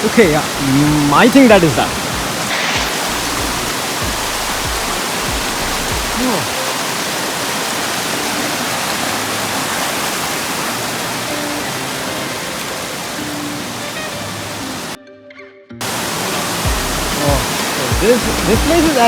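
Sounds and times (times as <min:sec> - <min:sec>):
waterfall rushing: 0:00.0 - 0:15.0, 0:15.8 - 0:19.0.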